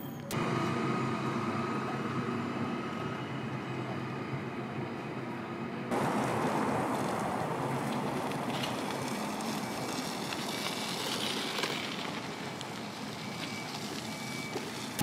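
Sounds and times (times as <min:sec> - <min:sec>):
distant traffic noise: 0:00.0 - 0:15.0.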